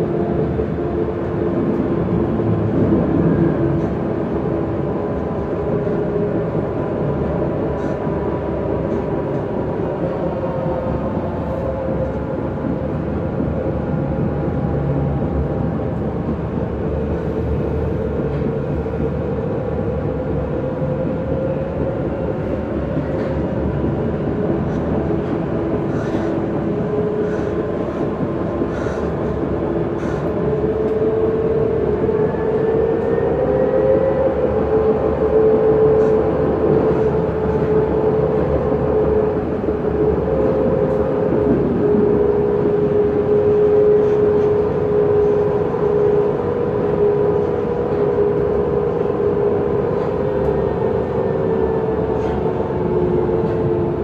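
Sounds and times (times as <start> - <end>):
train ride rumble: 0.0 - 54.0.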